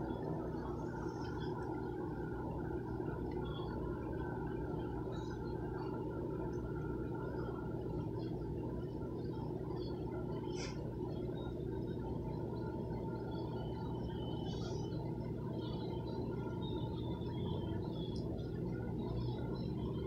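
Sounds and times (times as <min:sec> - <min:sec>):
aquarium air pump humming: 0:00.0 - 0:20.0.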